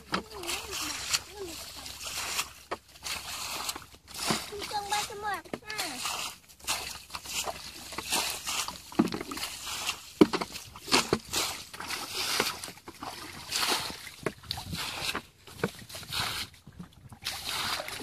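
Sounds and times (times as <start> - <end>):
bucket sloshing and splashing water: 0.0 - 18.0.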